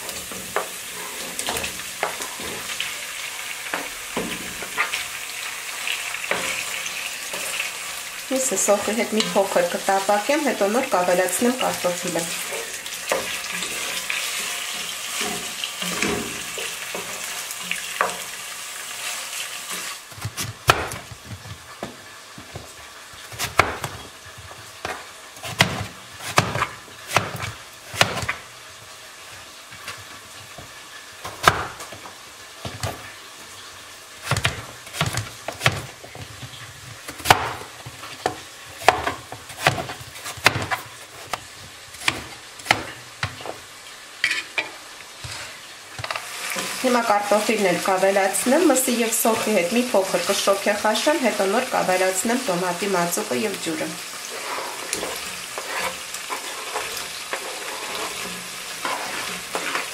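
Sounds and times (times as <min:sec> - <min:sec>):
chicken and onion sizzling: 0:00.0 - 0:59.9.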